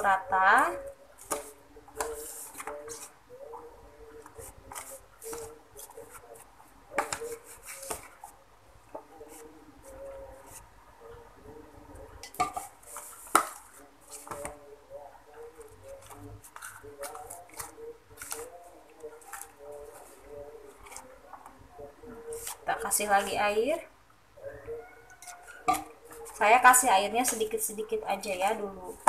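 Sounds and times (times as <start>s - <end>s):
batter squishing by hand: 0.1s - 23.8s.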